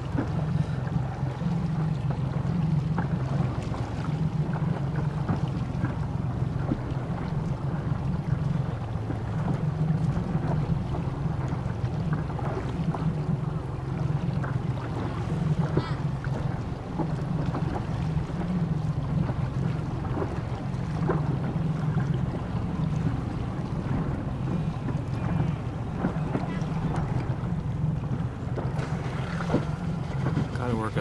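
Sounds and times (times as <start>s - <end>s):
motorboat engine hum: 0.0s - 31.0s
small waves slapping: 0.0s - 31.0s
wind on microphone: 0.0s - 31.0s.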